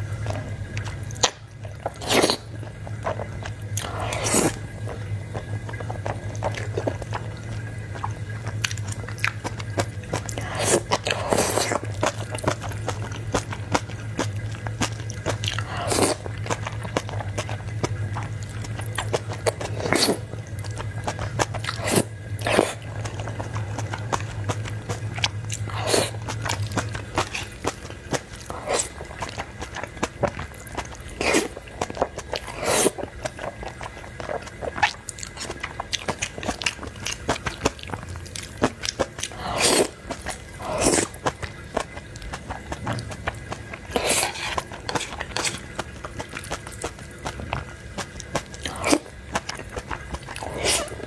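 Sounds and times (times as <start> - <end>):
noodles slurping: 0.0 - 51.0
wet chewing and smacking: 0.0 - 51.0.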